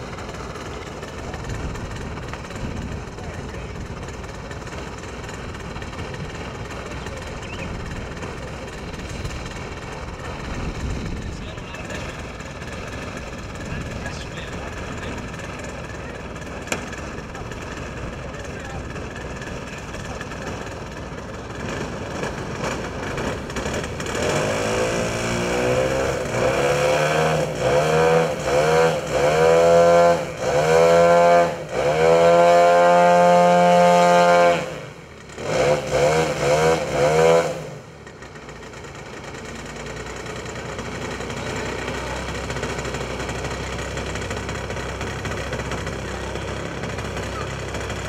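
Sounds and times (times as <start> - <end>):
model plane engine revving: 0.0 - 48.0.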